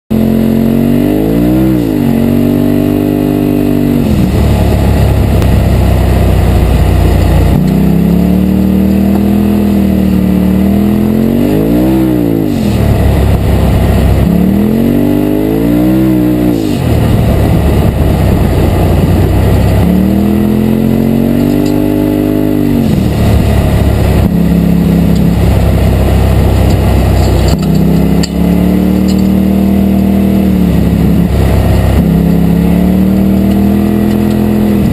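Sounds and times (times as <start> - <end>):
engine accelerating and easing off: 0.1 - 34.9.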